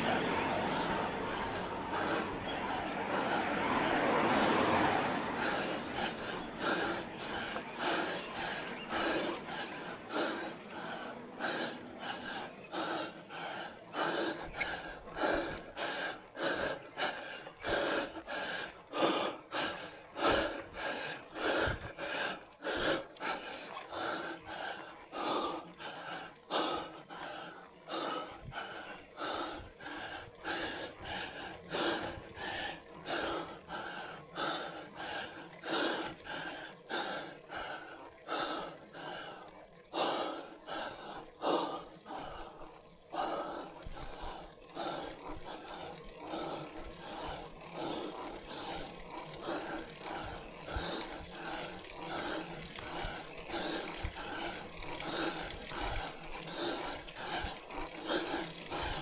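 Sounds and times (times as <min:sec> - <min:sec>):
cyclist panting hard: 0:00.0 - 0:59.0.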